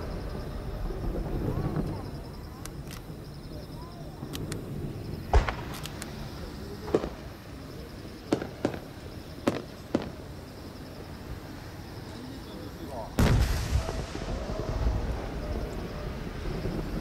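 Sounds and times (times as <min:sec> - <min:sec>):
fireworks bangs: 0:00.0 - 0:10.6, 0:12.9 - 0:17.0.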